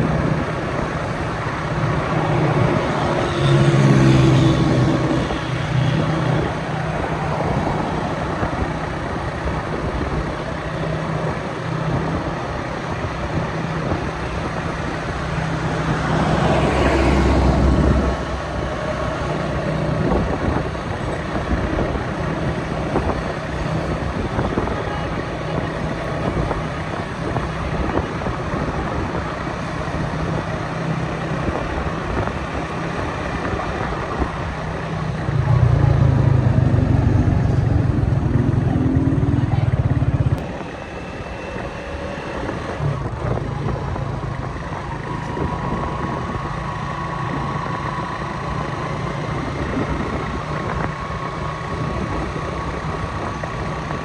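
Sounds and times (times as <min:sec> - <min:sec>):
road traffic hum: 0:00.0 - 0:54.0
vehicle passing with deep rumble: 0:00.0 - 0:54.0.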